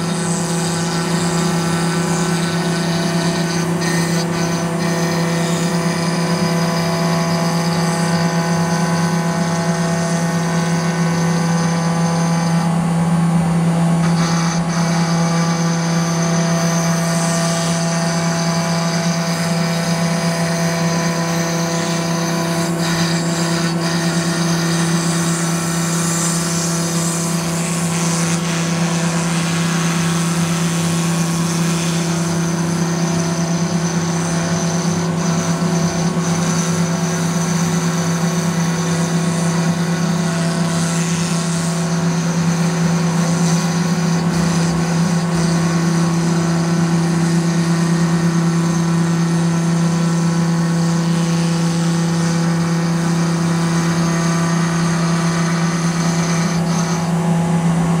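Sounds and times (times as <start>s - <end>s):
router cutting wood: 0.0s - 58.0s.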